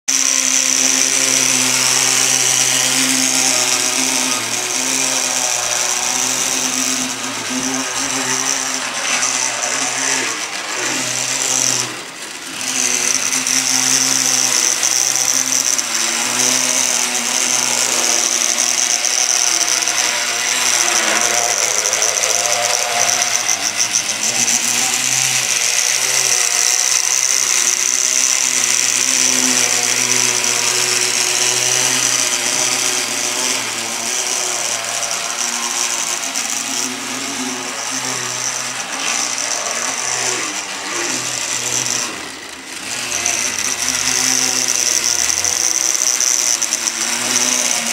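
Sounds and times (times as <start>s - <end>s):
model tram motor whine: 0.1s - 47.9s.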